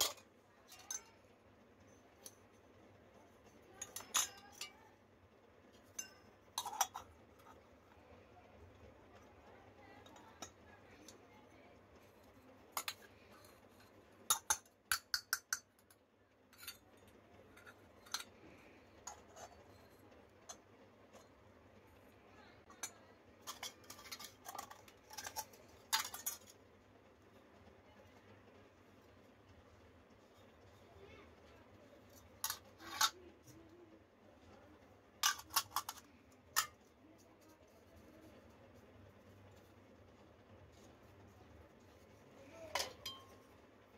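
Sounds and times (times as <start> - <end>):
metal toy pots clinking: 0.0 - 26.8, 30.1 - 33.8, 34.4 - 43.9.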